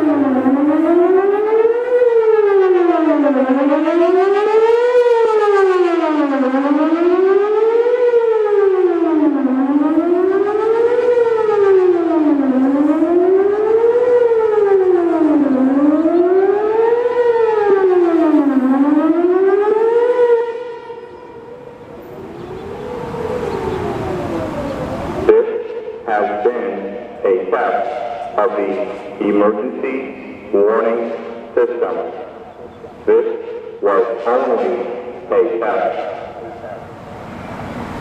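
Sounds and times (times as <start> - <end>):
warning siren sweeping up and down: 0.0 - 38.0.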